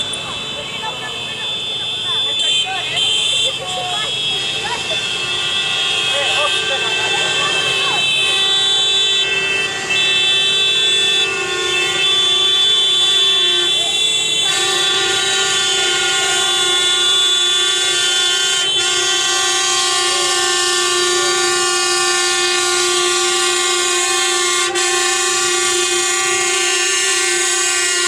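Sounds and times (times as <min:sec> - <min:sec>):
vehicle horns blaring: 0:00.0 - 0:28.0.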